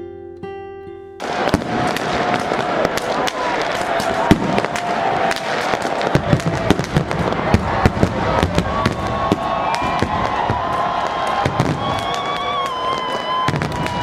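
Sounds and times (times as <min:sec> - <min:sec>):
fireworks bangs and crackles: 0:01.2 - 0:14.0
fireworks whistling: 0:01.2 - 0:14.0.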